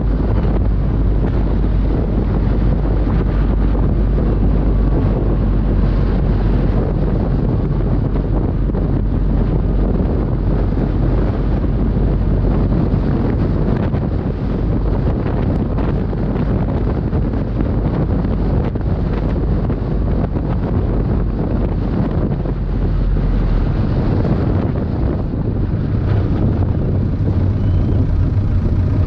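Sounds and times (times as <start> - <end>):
road noise: 0.0 - 29.0
wind buffeting microphone: 0.0 - 29.0.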